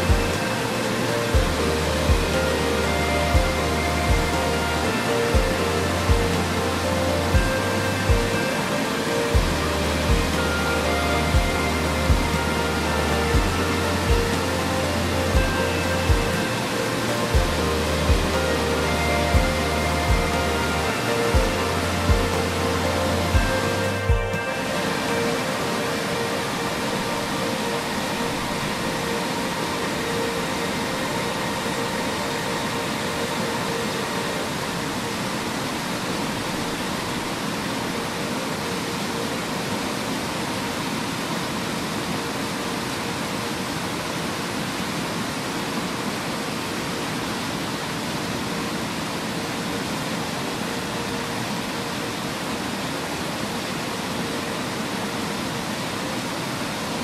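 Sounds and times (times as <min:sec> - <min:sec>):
faint background music: 0:00.0 - 0:57.0
waterfall rushing: 0:00.0 - 0:57.0.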